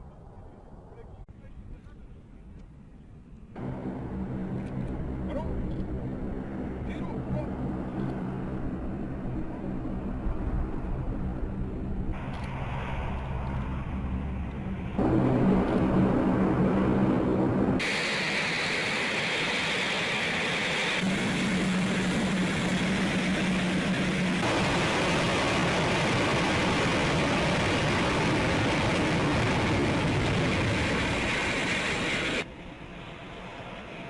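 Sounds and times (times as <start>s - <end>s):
jet engines roaring: 3.5s - 34.0s.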